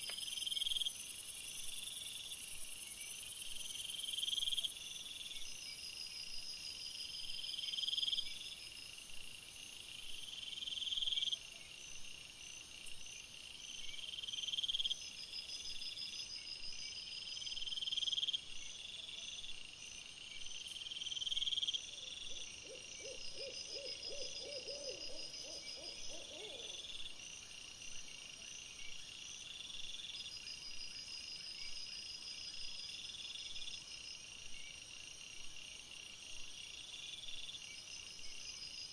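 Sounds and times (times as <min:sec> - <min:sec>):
crickets chirping in trills: 0:00.0 - 0:38.9.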